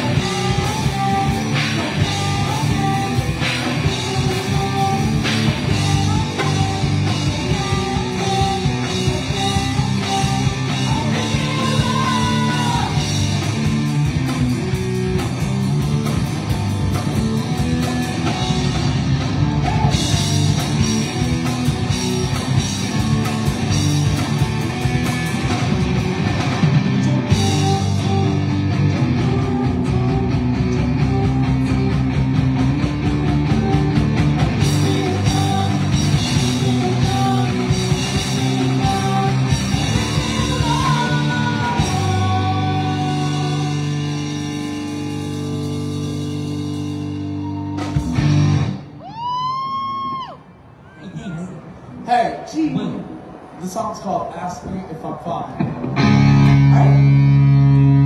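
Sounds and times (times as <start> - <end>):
drum kit: 0.0 - 50.4, 55.5 - 58.0
electric guitar: 0.0 - 50.5, 55.6 - 58.0.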